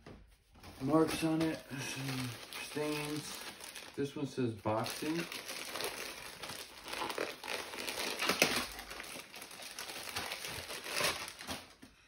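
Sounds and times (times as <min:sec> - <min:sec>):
plastic bag crinkling: 0:00.7 - 0:11.9.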